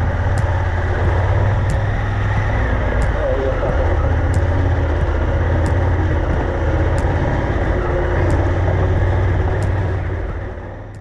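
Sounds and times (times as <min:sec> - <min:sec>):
motorcycle engine running: 0:00.0 - 0:11.0
wind and riding noise: 0:00.0 - 0:11.0.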